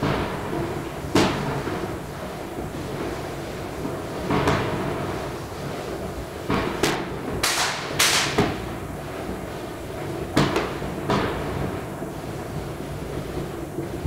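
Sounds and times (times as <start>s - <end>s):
firecracker bangs: 0.0s - 14.0s
fireworks hissing and crackling: 0.0s - 14.0s.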